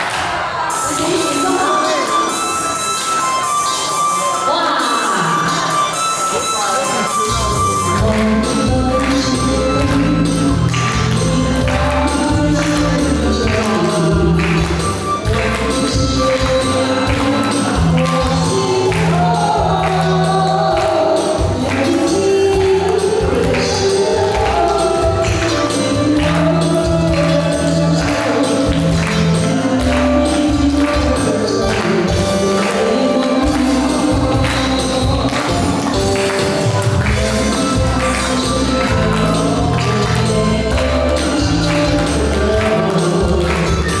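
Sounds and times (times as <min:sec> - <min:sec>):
song with steady beat: 0:00.0 - 0:44.0.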